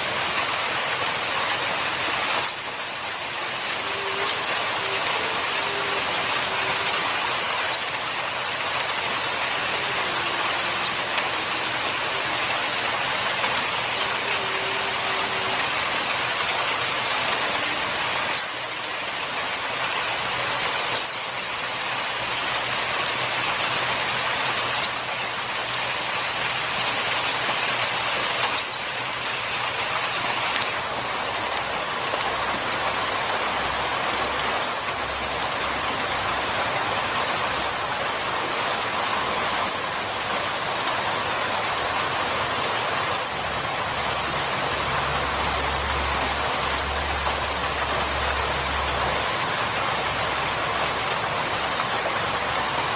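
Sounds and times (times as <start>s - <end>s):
rain-like hiss: 0.0s - 52.9s.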